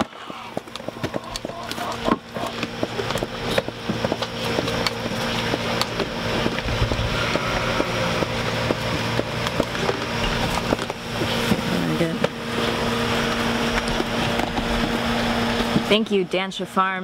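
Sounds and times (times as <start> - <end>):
milk and air sputtering through tubing: 0.0 - 16.4
steady low hum: 0.0 - 17.0.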